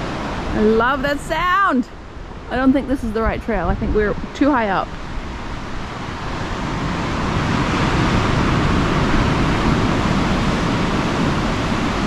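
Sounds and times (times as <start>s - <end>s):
ocean surf breaking on rocks: 0.0s - 12.0s.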